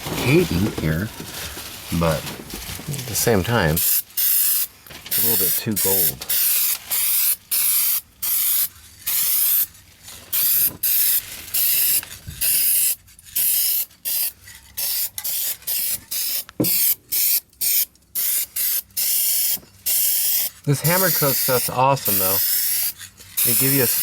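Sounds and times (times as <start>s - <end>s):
spray paint can hissing bursts: 3.8s - 9.7s, 10.3s - 24.0s.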